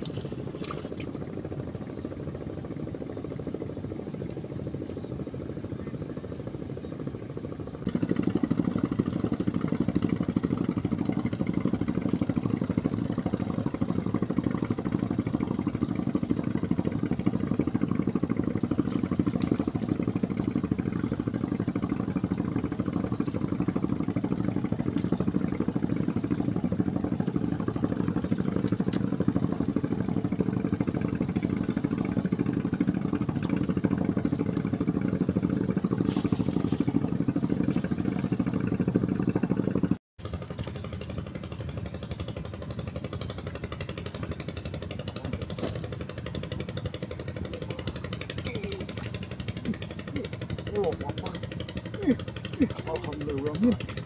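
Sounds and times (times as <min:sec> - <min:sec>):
small engine droning: 0:00.0 - 0:54.0.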